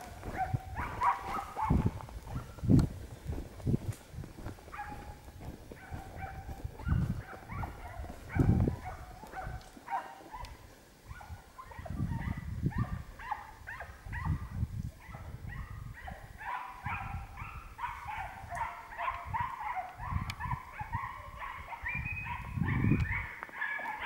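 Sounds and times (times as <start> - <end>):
dogs yelping: 0.1 - 2.6, 4.7 - 14.4, 15.6 - 24.0.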